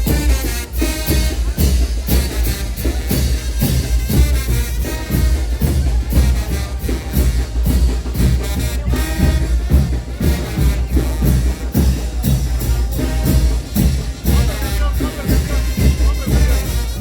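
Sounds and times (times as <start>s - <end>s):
drums beating: 0.0s - 17.0s
trumpets playing: 0.0s - 17.0s.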